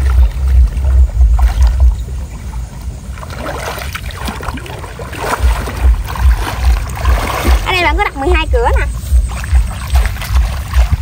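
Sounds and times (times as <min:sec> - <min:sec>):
heavy low thumps: 0:00.0 - 0:03.1, 0:05.1 - 0:11.0
water sloshing around wading legs: 0:00.0 - 0:11.0.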